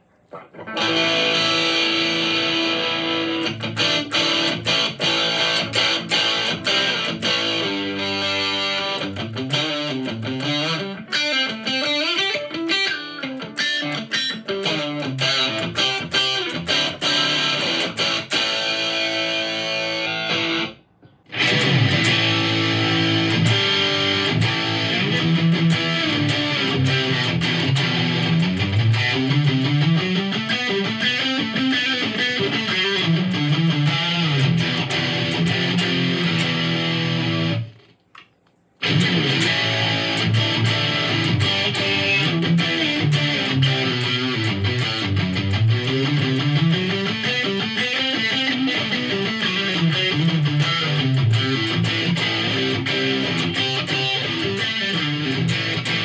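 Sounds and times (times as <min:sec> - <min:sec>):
electric guitar picked notes: 0:00.3 - 0:37.7, 0:38.8 - 0:56.0.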